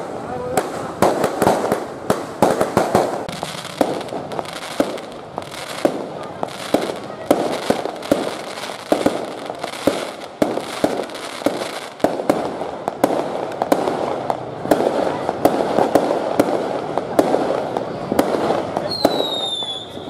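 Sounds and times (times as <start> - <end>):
firecracker crackle: 0.0 - 20.0
firework bangs: 0.0 - 20.0.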